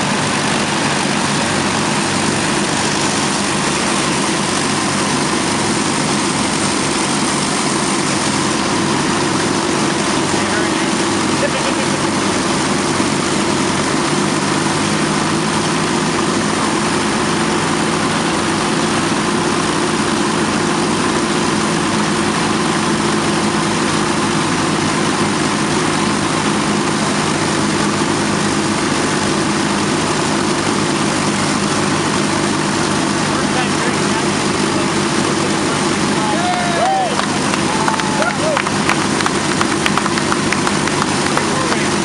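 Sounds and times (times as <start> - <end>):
aircraft engines droning: 0.0 - 42.0.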